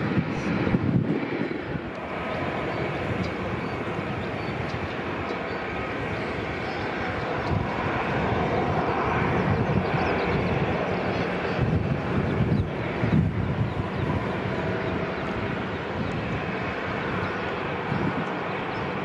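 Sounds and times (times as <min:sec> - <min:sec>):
jet engines taxiing: 0:00.0 - 0:19.0
wind buffeting microphone: 0:00.0 - 0:19.0.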